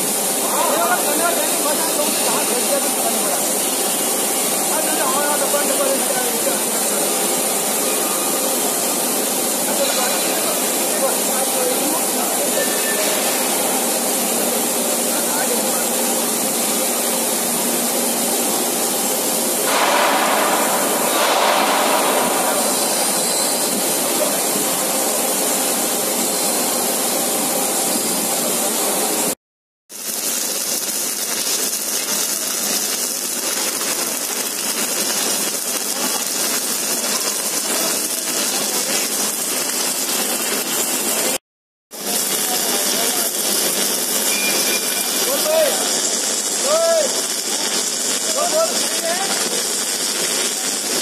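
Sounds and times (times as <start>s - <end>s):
welding machinery hiss and rumble: 0.0s - 51.0s.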